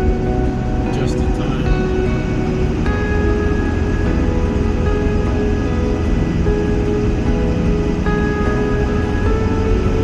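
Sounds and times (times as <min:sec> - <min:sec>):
music with long held notes: 0:00.0 - 0:10.0.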